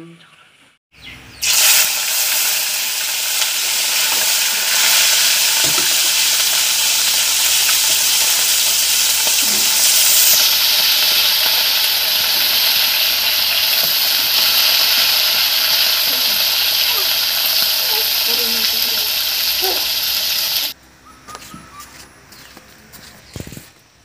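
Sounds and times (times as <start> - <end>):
fish deep-frying in oil: 1.4 - 20.8.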